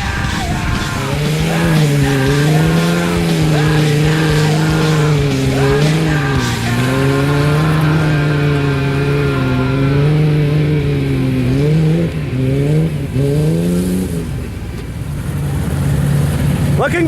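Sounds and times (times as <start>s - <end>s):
engine revving at high revs: 0.0s - 17.0s.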